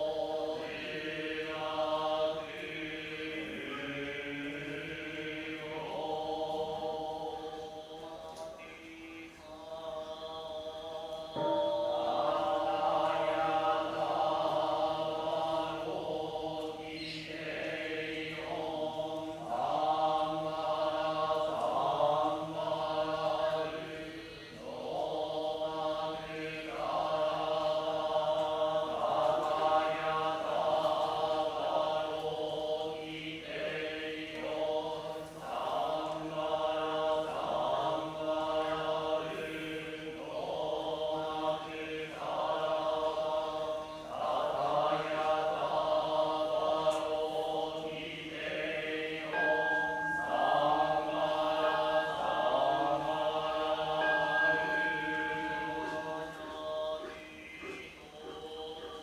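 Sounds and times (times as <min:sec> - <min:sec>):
monks chanting in unison: 0:00.0 - 0:59.0.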